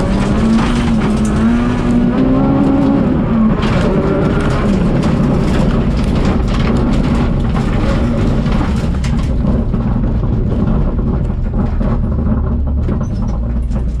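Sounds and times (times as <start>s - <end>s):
exhaust crackling: 0.0s - 14.0s
rally car engine rumbling: 0.0s - 14.0s.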